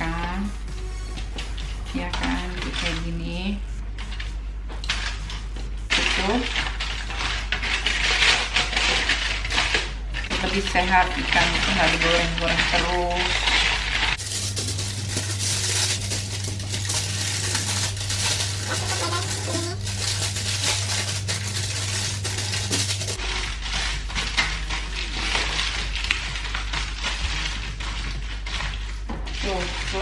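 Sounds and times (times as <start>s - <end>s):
aluminium foil crinkling: 0.0s - 3.4s, 4.0s - 30.0s
steady low hum: 0.0s - 30.0s.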